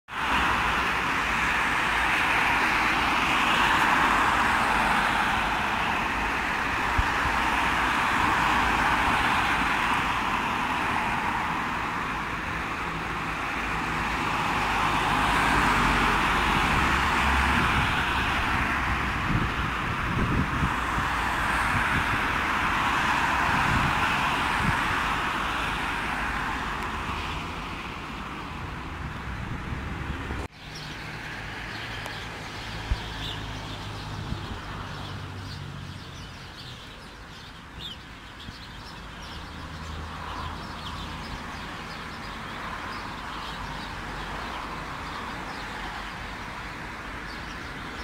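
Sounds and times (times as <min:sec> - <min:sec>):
road traffic passing: 0:00.1 - 0:48.0.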